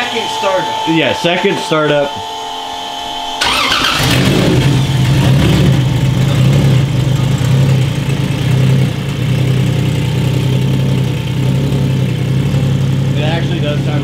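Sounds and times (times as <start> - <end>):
car engine starting and running: 0.1 - 14.0.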